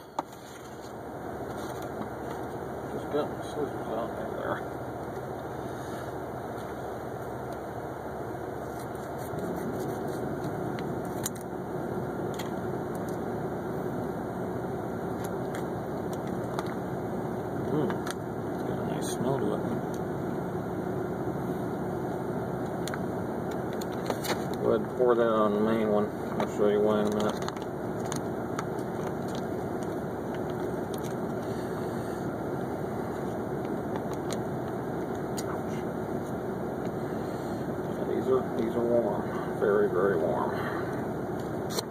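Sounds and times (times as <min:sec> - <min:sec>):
low mechanical hum: 0:00.0 - 0:41.9.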